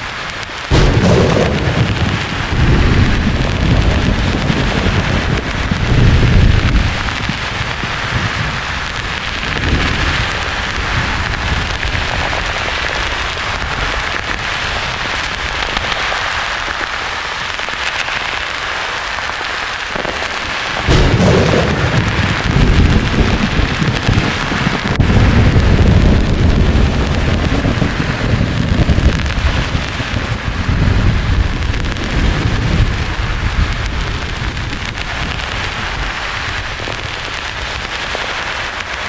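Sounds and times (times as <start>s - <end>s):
rain hiss: 0.0s - 39.0s
thunder rumbling: 0.7s - 16.5s, 20.0s - 37.8s.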